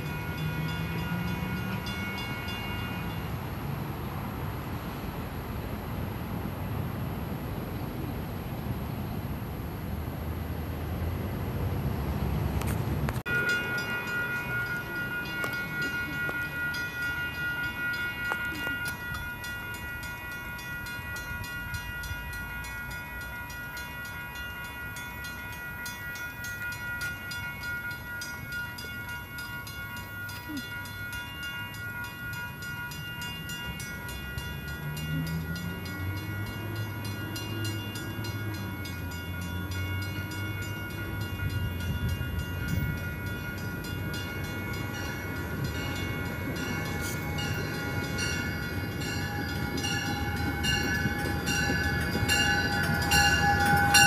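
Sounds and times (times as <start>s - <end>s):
train running: 0.0s - 54.0s.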